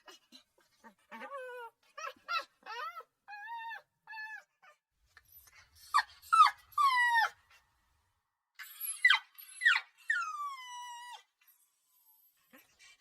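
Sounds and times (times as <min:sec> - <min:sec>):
puppy whining: 0:00.0 - 0:07.7, 0:08.6 - 0:13.0
puppy whimpering yelps: 0:00.8 - 0:07.4, 0:08.6 - 0:12.7.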